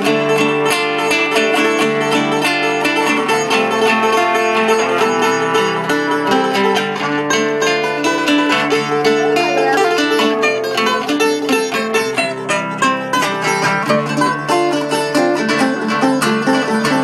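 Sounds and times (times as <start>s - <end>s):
acoustic guitar strumming: 0.0s - 17.0s
plucked string instrument: 0.0s - 17.0s.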